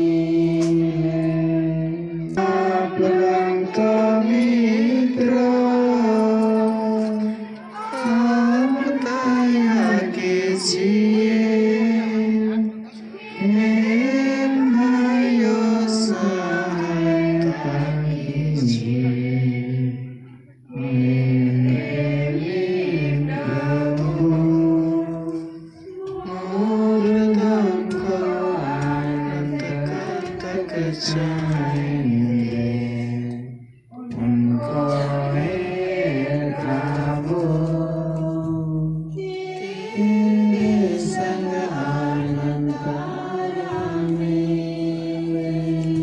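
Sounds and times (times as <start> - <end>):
slow devotional singing: 0.0 - 46.0.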